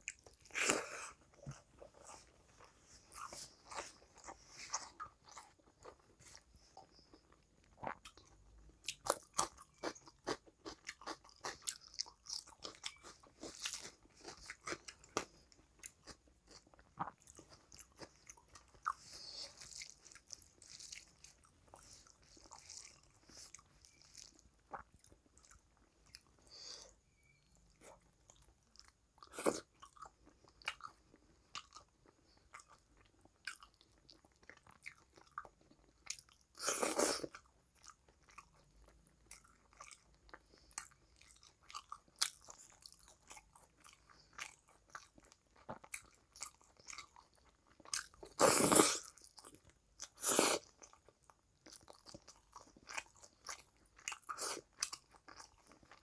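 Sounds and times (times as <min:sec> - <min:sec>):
chewing food: 0:00.0 - 0:56.0.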